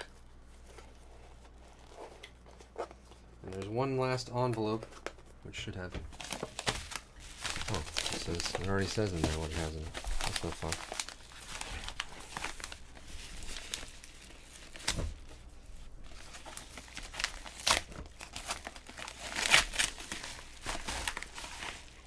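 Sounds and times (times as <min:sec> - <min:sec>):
paper envelope crinkling and tearing: 0:00.0 - 0:22.0.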